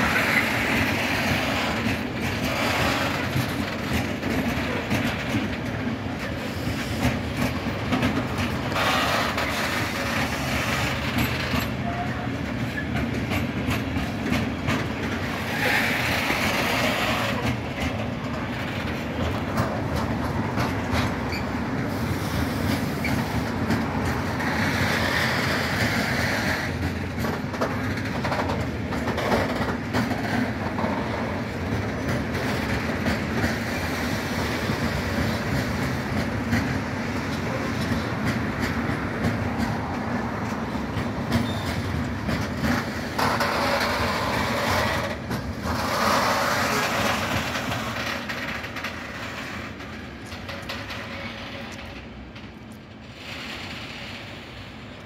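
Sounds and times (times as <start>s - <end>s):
freight train rumbling past: 0.0s - 55.0s
wheels clacking over rail joints: 0.0s - 55.0s.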